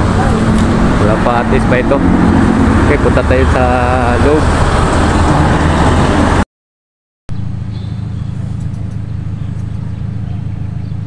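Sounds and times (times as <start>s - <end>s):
low engine drone: 0.0s - 6.4s, 7.3s - 11.0s.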